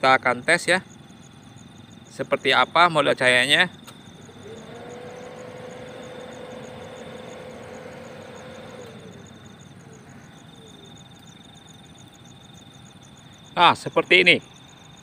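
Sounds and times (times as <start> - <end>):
car engine idling: 0.0 - 15.0
insects chirping: 0.0 - 15.0.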